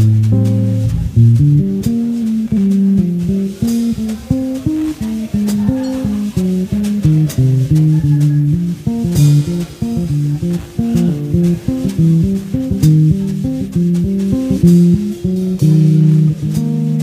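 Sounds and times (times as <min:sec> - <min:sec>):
bass guitar plucked notes: 0:00.0 - 0:17.0
guitar plucked notes: 0:00.0 - 0:17.0.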